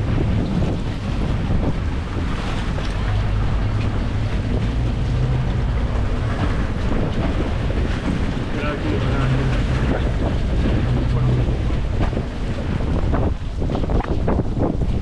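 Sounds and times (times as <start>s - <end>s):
boat motor humming: 0.0s - 15.0s
wind buffeting microphone: 0.0s - 15.0s.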